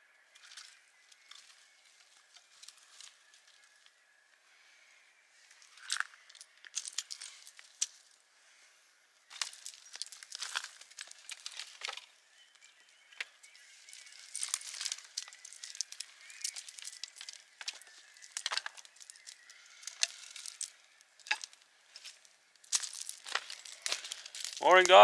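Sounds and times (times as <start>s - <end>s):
crinkling and rustling: 0.3s - 4.0s, 5.5s - 8.6s, 9.2s - 25.0s.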